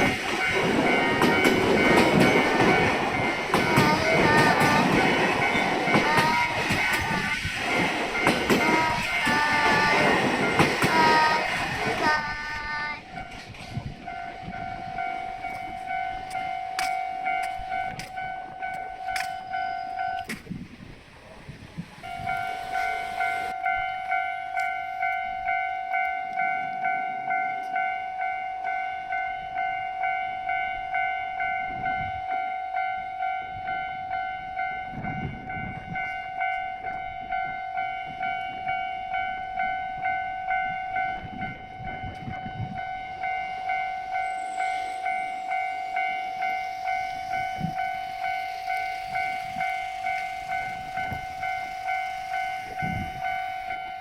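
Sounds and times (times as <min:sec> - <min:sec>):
electronic level crossing bell: 0:00.0 - 0:20.3, 0:22.0 - 0:54.0.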